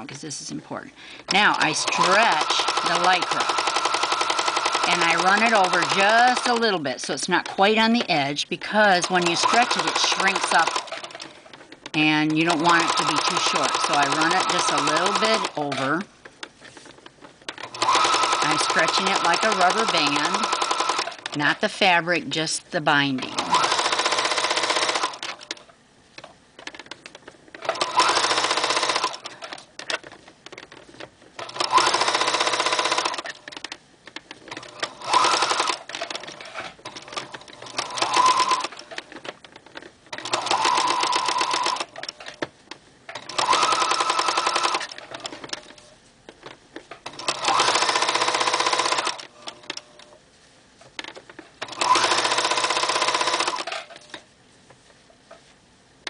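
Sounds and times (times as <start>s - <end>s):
sewing machine stitching: 1.3s - 8.1s, 8.7s - 16.1s, 17.5s - 21.6s, 23.2s - 25.6s, 27.5s - 42.5s, 43.2s - 45.9s, 47.0s - 50.1s, 51.0s - 54.2s.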